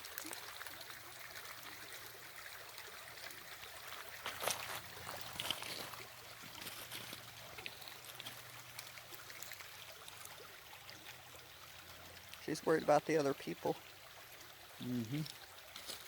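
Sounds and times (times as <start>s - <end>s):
brook trickling: 0.0s - 16.0s.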